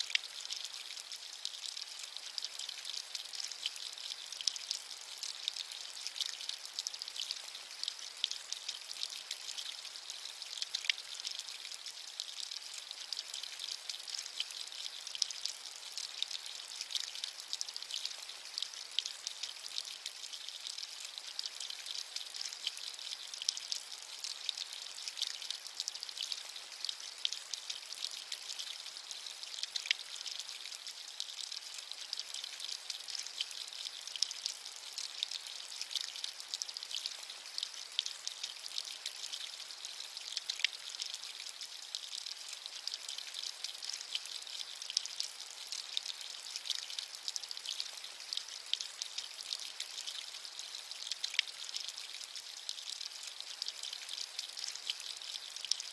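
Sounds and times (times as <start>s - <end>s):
steady rain patter: 0.0s - 55.9s.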